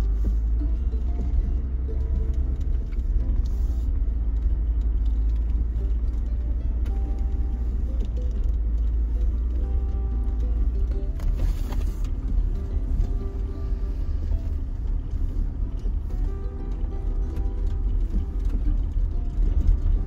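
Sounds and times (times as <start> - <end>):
faint background music: 0.0 - 20.0
vehicle driving on dirt: 0.0 - 20.0.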